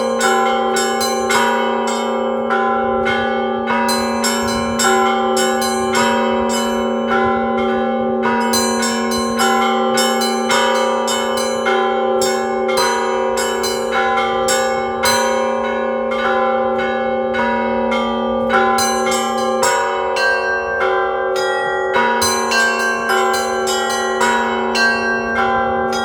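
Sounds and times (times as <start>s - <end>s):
small high bells striking: 0.0s - 2.4s, 3.1s - 7.5s, 8.2s - 15.8s, 18.5s - 26.0s
large deep bells ringing: 0.0s - 26.0s.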